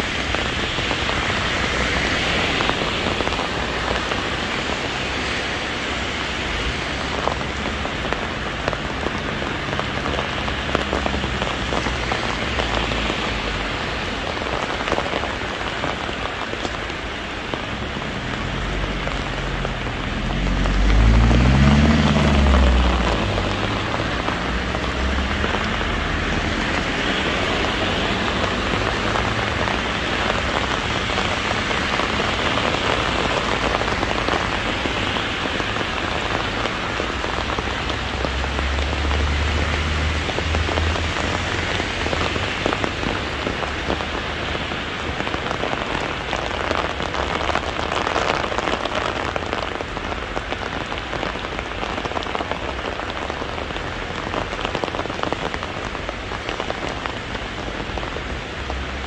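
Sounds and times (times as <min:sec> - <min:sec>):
heavy rain on hard surfaces: 0:00.0 - 0:59.0.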